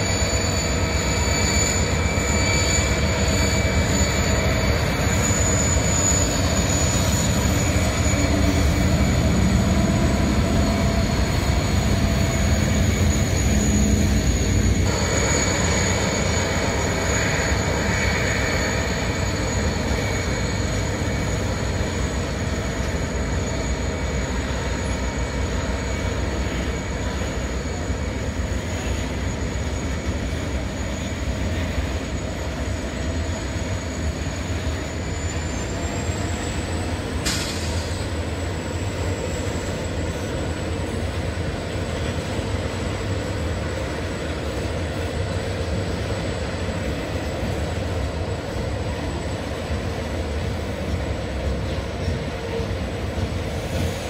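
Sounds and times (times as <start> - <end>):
thin high whine: 0.0 - 44.6
train wheels rumbling on rails: 0.0 - 54.0.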